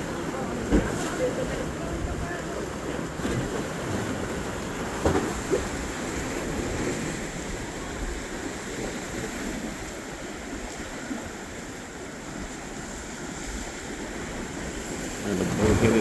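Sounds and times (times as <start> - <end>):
waves washing: 0.0 - 16.0.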